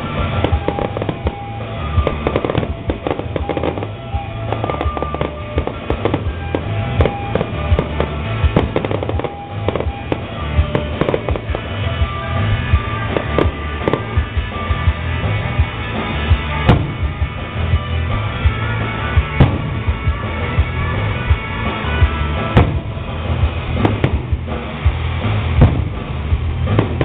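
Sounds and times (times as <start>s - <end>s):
fireworks bangs and crackles: 0.0s - 27.0s
music playing: 0.0s - 27.0s.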